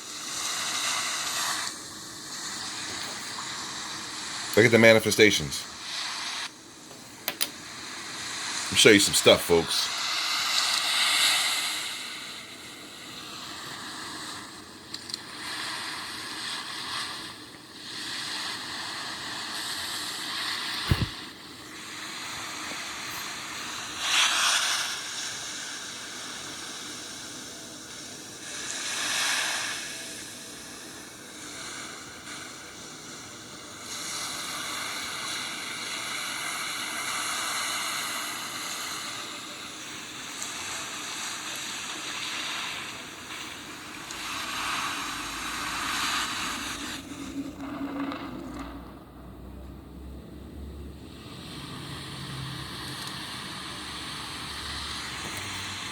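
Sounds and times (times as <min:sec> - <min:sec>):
steady rushing hiss: 0:00.0 - 0:55.9.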